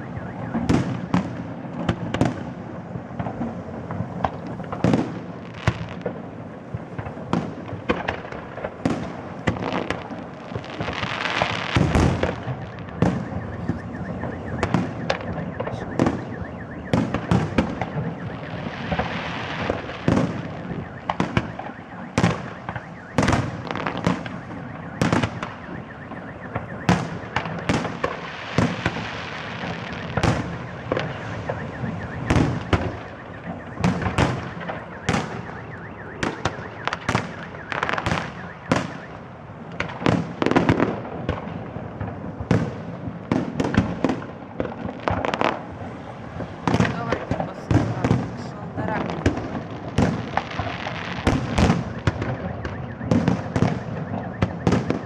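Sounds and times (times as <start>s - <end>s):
crackling fireworks: 0.0s - 55.0s.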